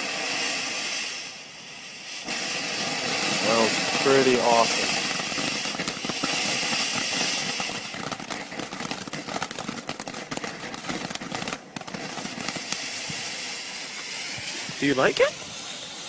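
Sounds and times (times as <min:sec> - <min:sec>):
firework crackling pops: 0:00.0 - 0:16.0
firework hissing spray: 0:00.0 - 0:16.0.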